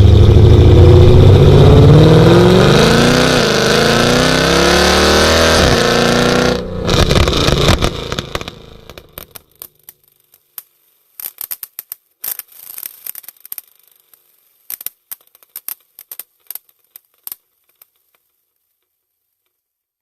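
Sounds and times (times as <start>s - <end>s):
exhaust crackles and pops: 0.0s - 19.6s.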